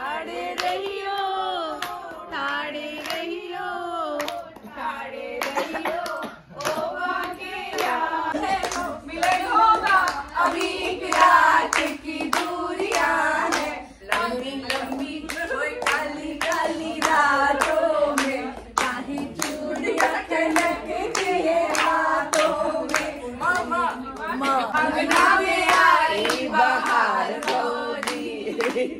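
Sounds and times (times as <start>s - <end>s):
hand clapping: 0.4s - 3.5s, 4.2s - 4.8s, 5.4s - 28.9s.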